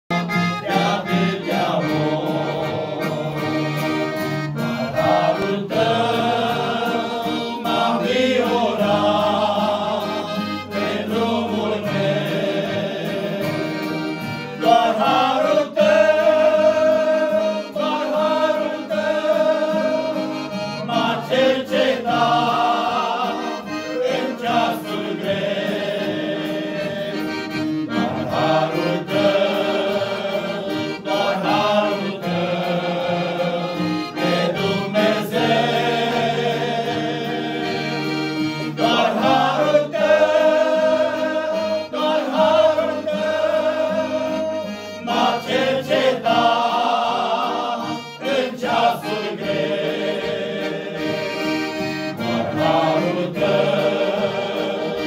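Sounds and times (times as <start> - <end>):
piano accordion: 0.1 - 55.0
men singing together: 0.4 - 55.0.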